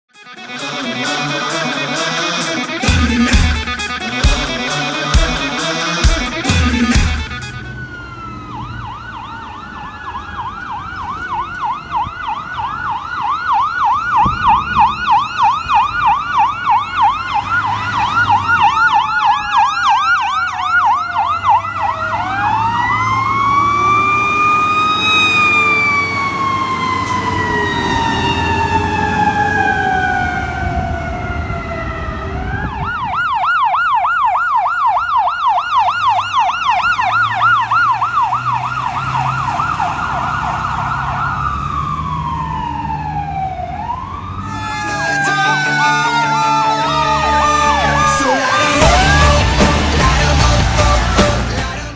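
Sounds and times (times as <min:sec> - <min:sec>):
electronic siren yelping: 0:00.1 - 0:51.6
truck engines rumbling: 0:00.3 - 0:51.9.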